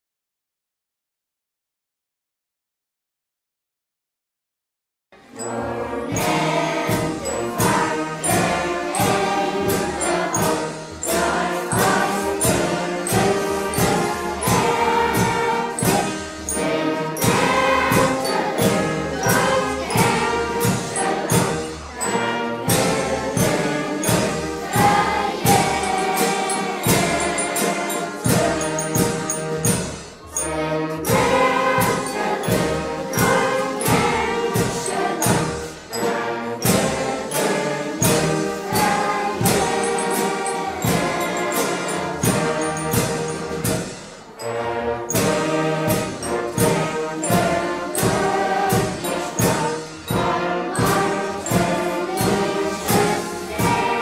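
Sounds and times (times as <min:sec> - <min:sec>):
choir singing with accompaniment: 0:05.2 - 0:54.0.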